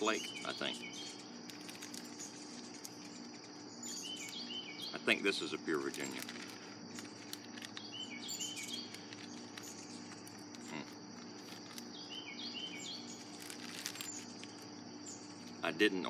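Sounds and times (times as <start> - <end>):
air conditioner hum: 0.0 - 16.0
bird chirping: 0.0 - 16.0
crickets and insects droning: 0.0 - 16.0
plastic pouch crinkling: 1.3 - 4.5, 5.6 - 15.6.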